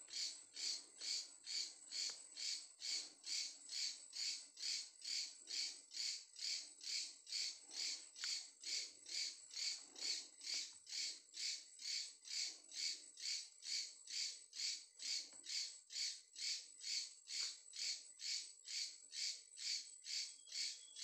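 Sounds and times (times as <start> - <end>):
night insects calling: 0.0 - 21.0.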